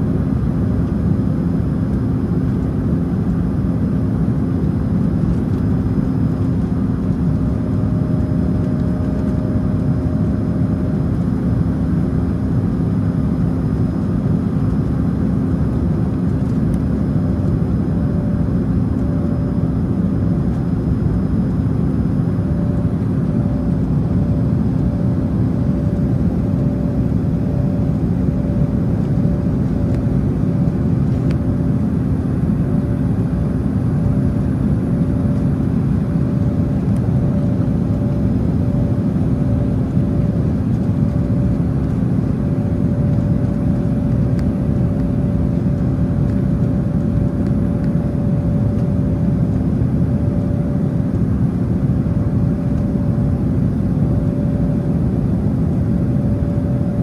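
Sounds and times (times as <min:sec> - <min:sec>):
airliner cabin engine rush: 0:00.0 - 0:57.0
low hum: 0:00.0 - 0:57.0.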